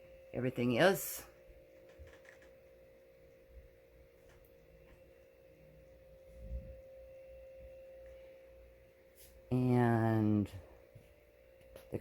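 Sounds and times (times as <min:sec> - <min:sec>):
faint electrical whine: 0:00.0 - 0:12.0.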